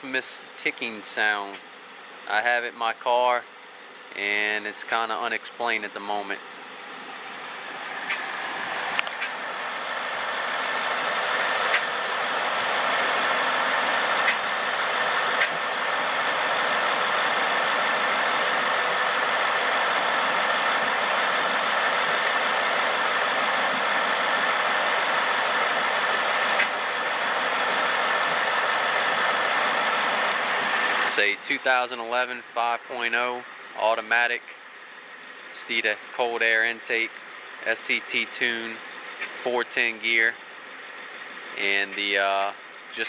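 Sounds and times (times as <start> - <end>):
car engine idling with ticking: 0.0 - 43.0.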